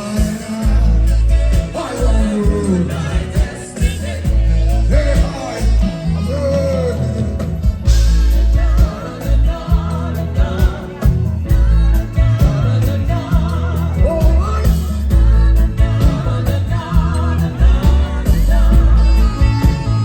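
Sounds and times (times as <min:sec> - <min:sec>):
heavy pulsing bass: 0:00.0 - 0:20.0
live reggae band playing: 0:00.0 - 0:20.0
person singing: 0:00.0 - 0:20.0.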